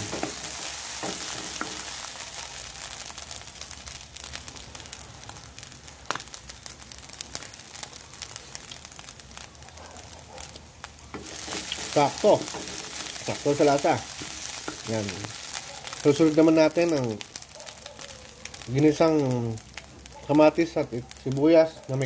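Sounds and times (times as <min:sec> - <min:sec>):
rice sizzling in a wok: 0:00.0 - 0:22.0.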